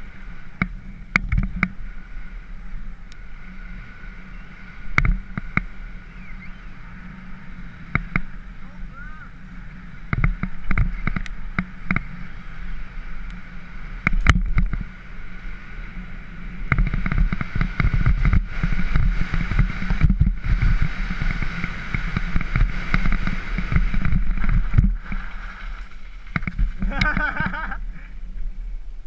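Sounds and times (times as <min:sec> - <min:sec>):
mountain bike rattling on trail: 0:00.0 - 0:28.5
tyres rumbling: 0:00.0 - 0:29.0.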